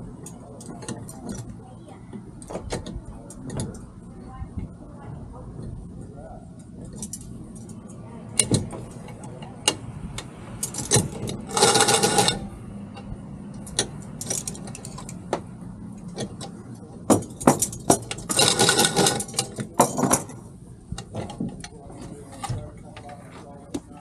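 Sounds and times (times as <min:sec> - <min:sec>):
metal boat hardware rattling: 0:00.2 - 0:03.9, 0:06.5 - 0:24.0.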